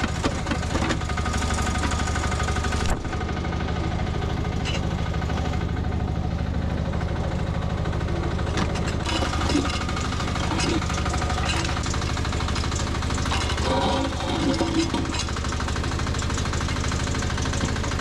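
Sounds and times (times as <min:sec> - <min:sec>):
excavator engine droning: 0:00.0 - 0:18.0.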